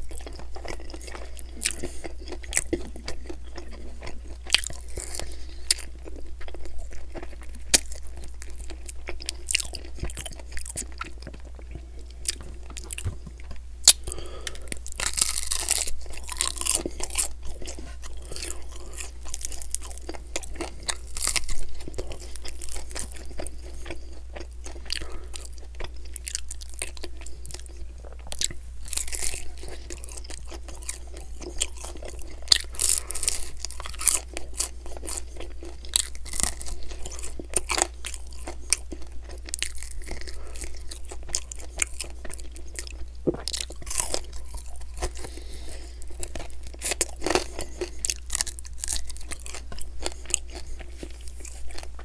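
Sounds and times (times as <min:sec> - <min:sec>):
man chewing crunchy food: 0:00.0 - 0:52.0.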